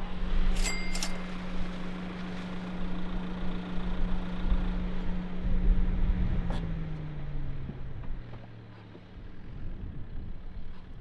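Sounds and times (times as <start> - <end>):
car engine hum: 0.0 - 11.0
road rumble: 0.0 - 11.0.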